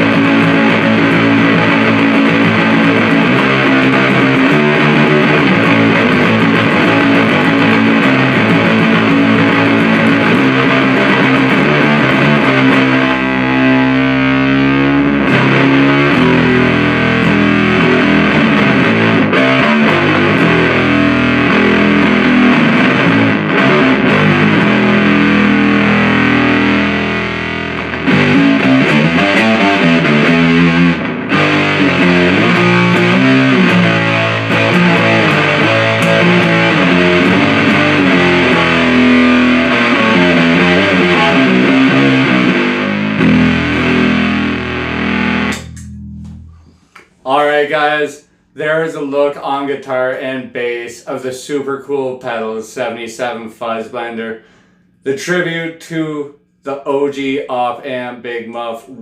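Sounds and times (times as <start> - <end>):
fuzzed distorted guitar riffs: 0.0 - 59.0.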